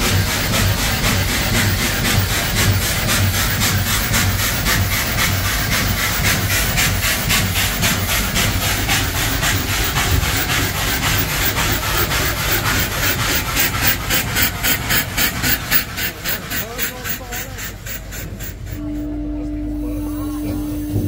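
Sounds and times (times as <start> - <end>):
steam engine exhaust chuffing: 0.0 - 21.0.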